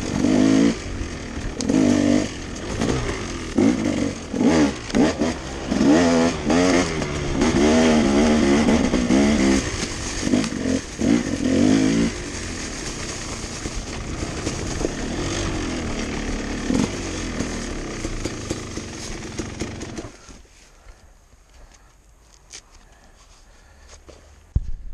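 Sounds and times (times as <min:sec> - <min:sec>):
dirt bike engine revving: 0:00.0 - 0:20.4.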